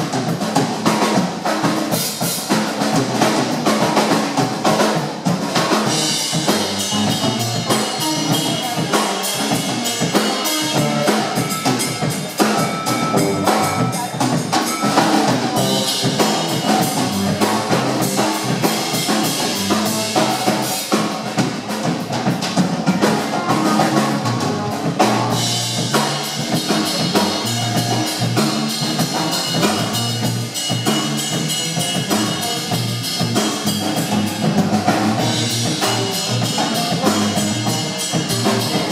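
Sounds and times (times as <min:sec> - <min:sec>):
cymbals: 0:00.0 - 0:38.9
rock band playing: 0:00.0 - 0:38.9.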